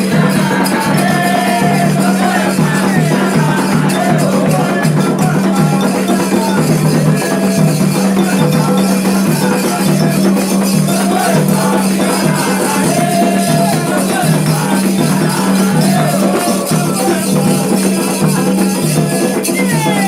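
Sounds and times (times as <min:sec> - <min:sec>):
hand drums beating: 0:00.0 - 0:20.0
rattle shaking: 0:00.0 - 0:20.0
voices singing: 0:00.0 - 0:20.0.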